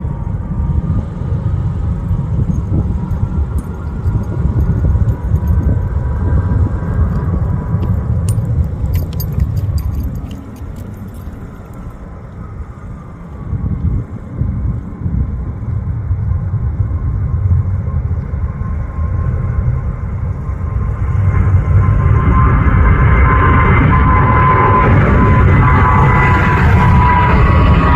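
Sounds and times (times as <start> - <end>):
jet engines rumbling with fan whine: 0.0 - 27.9.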